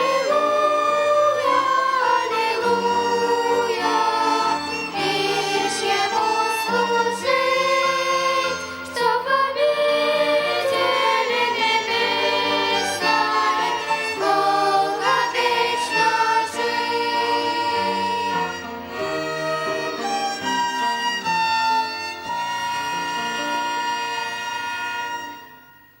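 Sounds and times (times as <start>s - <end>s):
violin ensemble playing hymn tune: 0.0s - 26.0s.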